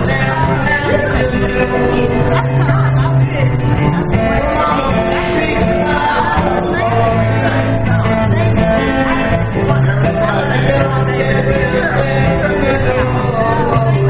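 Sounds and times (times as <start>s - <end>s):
guitar: 0.0s - 14.0s
held low notes: 0.0s - 14.0s
man singing: 0.0s - 14.0s.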